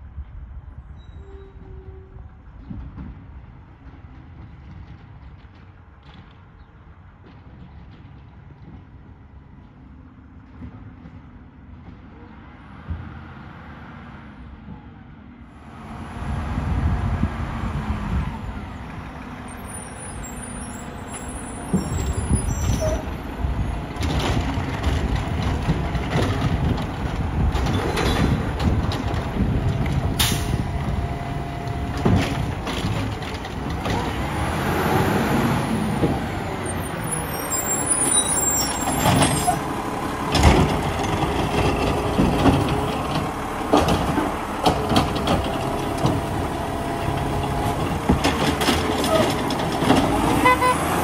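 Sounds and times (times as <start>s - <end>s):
truck diesel engine: 10.1s - 51.0s.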